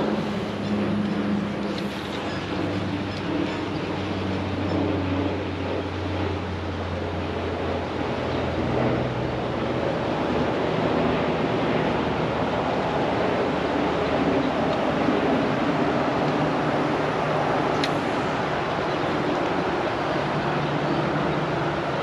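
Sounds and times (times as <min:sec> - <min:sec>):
low hum: 0:00.0 - 0:22.0
wind gusting: 0:00.0 - 0:22.0.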